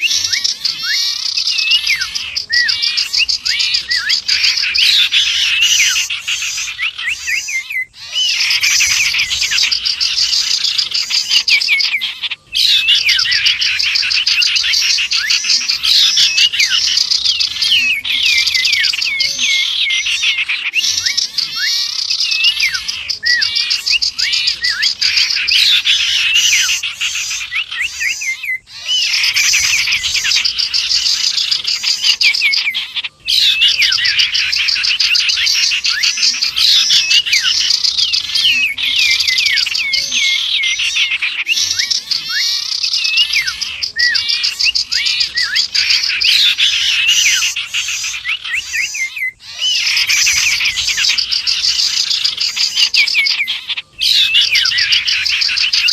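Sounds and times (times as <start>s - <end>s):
chorus of songbirds chirping: 0.0s - 55.9s.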